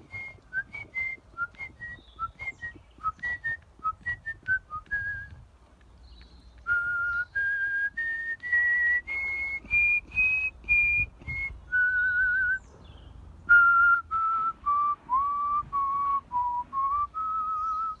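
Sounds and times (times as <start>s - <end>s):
person whistling a melody: 0.0s - 5.4s, 6.7s - 12.6s, 13.5s - 18.0s.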